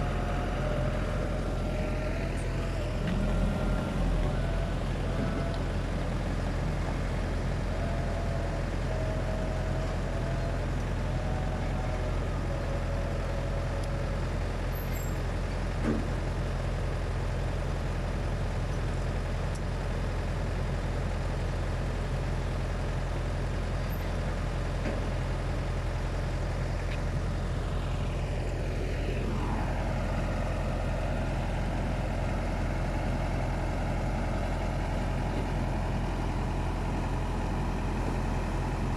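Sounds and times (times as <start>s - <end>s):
heavy vehicle engine humming: 0.0s - 38.9s.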